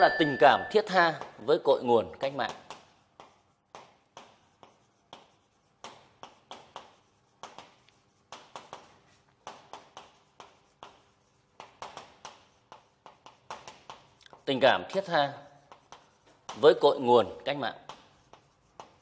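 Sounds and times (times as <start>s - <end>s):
chalk scratching on chalkboard: 0.6s - 19.0s.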